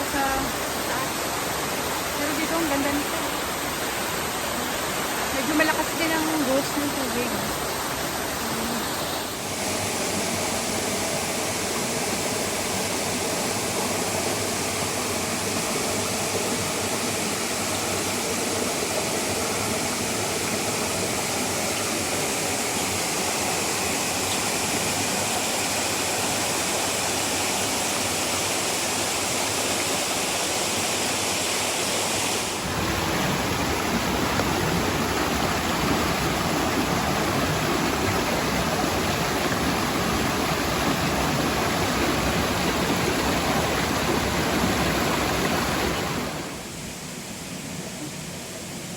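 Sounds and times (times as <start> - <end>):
water rushing over waterfall: 0.0 - 48.9.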